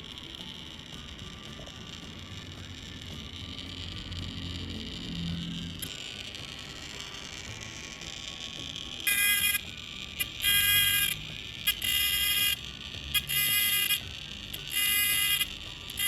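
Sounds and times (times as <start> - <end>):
high-pitched buzzing tone: 0.0 - 16.0.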